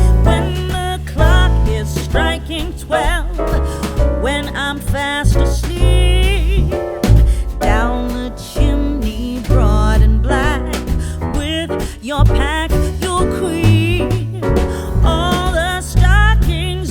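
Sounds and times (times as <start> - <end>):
song with bass and beat: 0.0 - 16.9.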